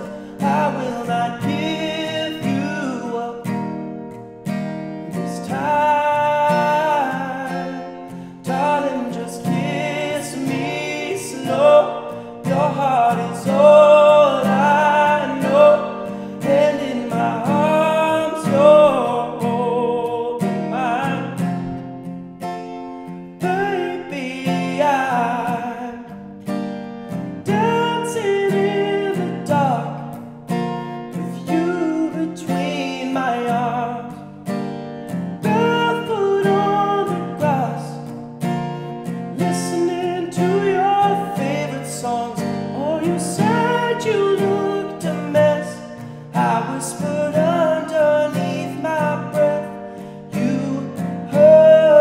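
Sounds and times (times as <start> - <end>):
man singing a ballad: 0.0 - 3.7, 5.1 - 21.6, 23.4 - 26.2, 27.4 - 30.2, 31.1 - 34.2, 35.4 - 38.1, 39.2 - 52.0
strummed acoustic guitar: 0.0 - 52.0.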